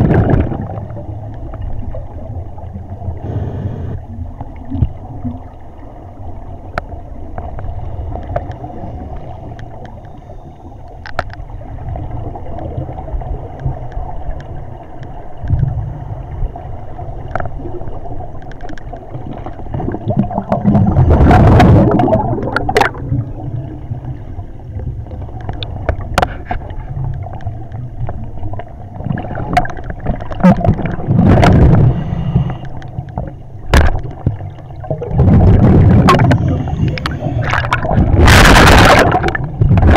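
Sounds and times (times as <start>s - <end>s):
scuba exhaust bubbles gurgling: 0.0s - 39.9s
underwater low rumble: 0.0s - 39.9s.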